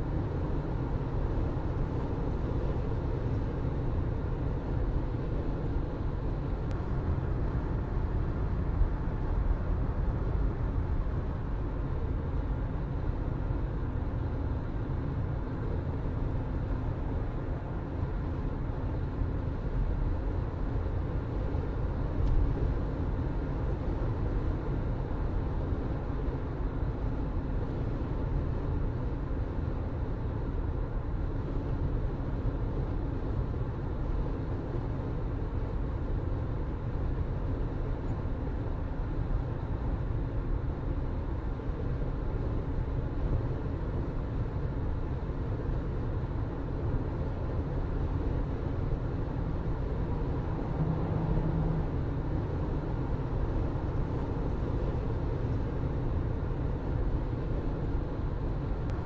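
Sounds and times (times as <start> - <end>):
car engine hum and road rumble: 0.0 - 59.0.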